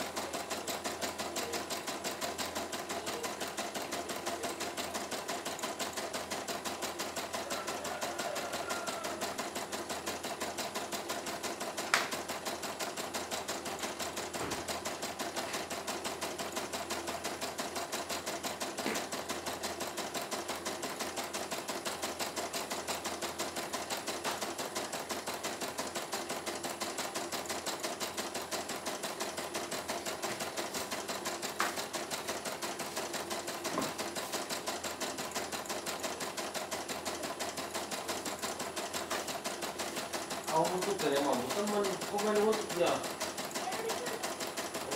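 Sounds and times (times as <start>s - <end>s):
sharp machine clicks: 0.0s - 7.5s, 8.7s - 44.9s
embroidery machine clatter: 0.0s - 44.9s.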